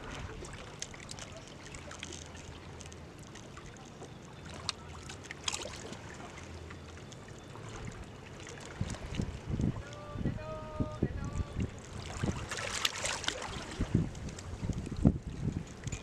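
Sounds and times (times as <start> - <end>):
water trickling and lapping: 0.0 - 16.0.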